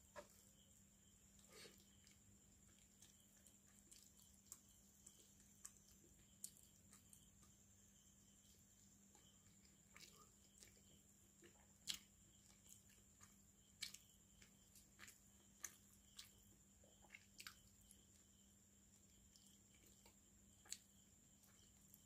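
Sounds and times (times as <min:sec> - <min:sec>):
wet chewing and smacking: 0:01.2 - 0:22.0.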